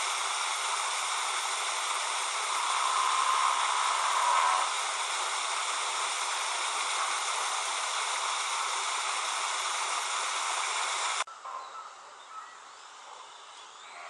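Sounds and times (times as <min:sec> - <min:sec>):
rushing water: 0:00.0 - 0:11.3.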